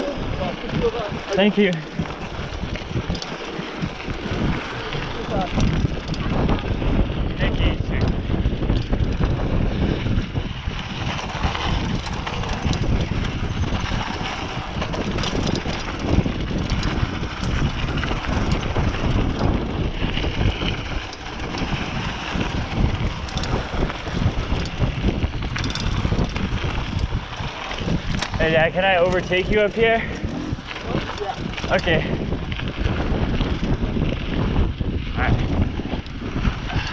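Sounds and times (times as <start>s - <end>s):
bike clicks and rattles: 0.0s - 36.9s
tyres rumbling over dirt: 0.0s - 36.9s
wind buffeting microphone: 0.0s - 36.9s.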